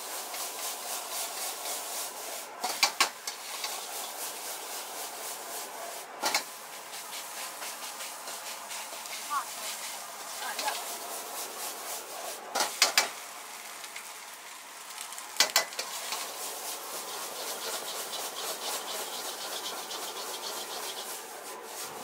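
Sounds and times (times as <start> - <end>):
rice sizzling in a wok: 0.0 - 22.0
metal spatula scraping wok: 0.1 - 13.1, 15.5 - 22.0.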